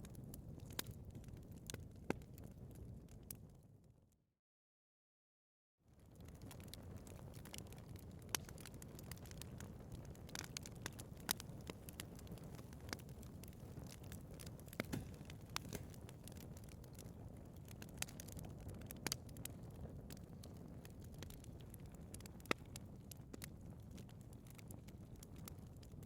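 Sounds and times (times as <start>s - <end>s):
wood fire crackling and popping: 0.0s - 3.6s, 5.9s - 26.0s.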